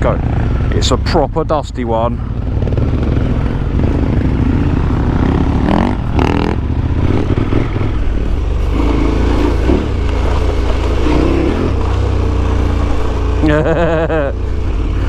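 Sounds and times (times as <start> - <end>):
motorcycle engine riding on dirt: 0.0 - 15.0.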